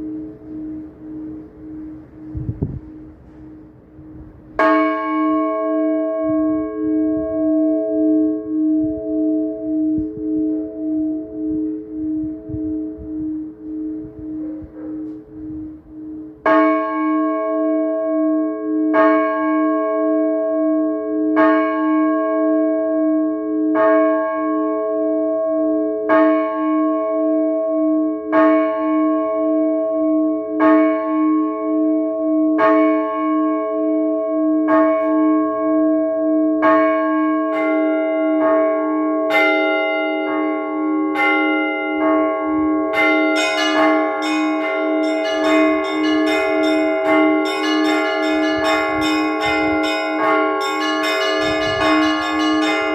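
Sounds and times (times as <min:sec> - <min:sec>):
large church bell tolling: 0:00.0 - 0:52.9
smaller higher bells ringing: 0:00.0 - 0:52.9.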